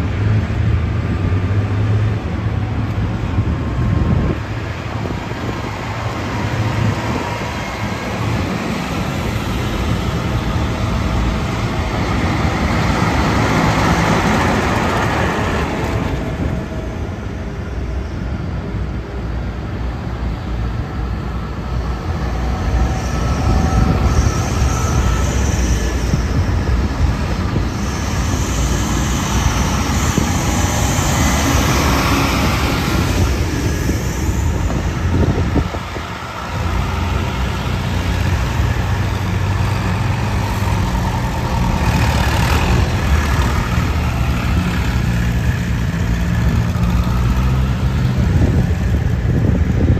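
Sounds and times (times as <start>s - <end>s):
diesel tractors driving past: 0.0s - 49.9s.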